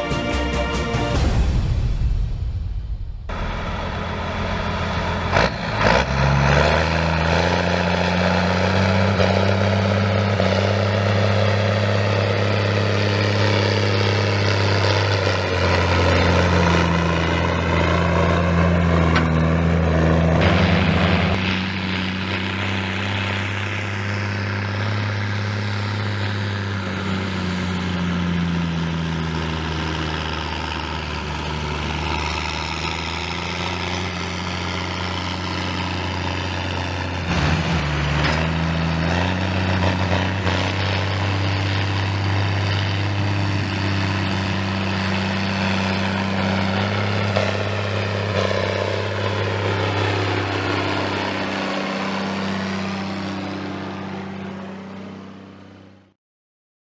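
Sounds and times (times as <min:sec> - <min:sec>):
tractor diesel engine under load: 0:03.0 - 0:56.1.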